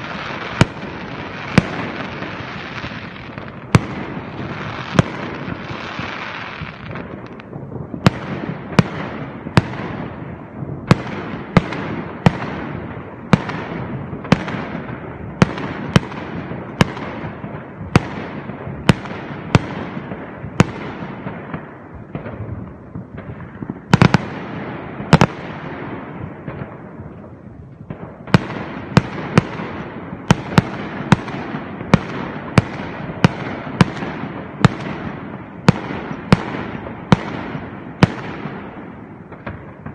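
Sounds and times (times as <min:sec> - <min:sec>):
fireworks bursting with bangs: 0:00.0 - 0:39.9.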